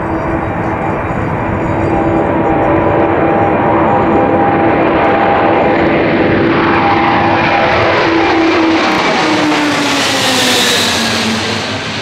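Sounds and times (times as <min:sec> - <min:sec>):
jet plane passing overhead: 0:00.0 - 0:12.0.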